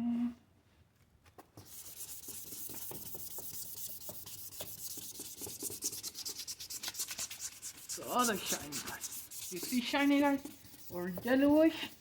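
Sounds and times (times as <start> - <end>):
sandpaper scratching on plastic: 1.6 - 12.0.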